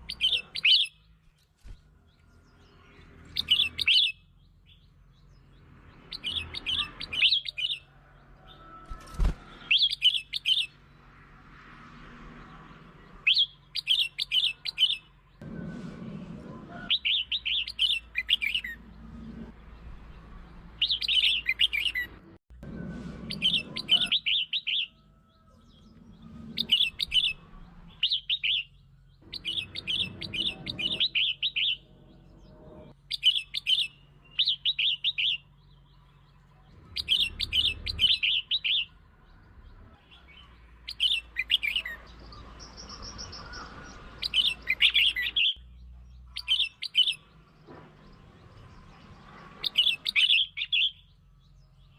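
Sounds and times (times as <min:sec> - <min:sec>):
bird chirping song: 0:00.0 - 0:51.9.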